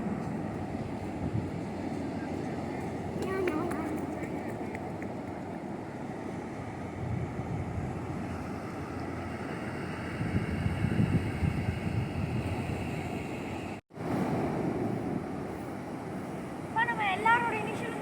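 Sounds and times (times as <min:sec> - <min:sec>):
ocean waves on a beach: 0:00.0 - 0:18.0
wind buffeting microphone: 0:00.0 - 0:18.0.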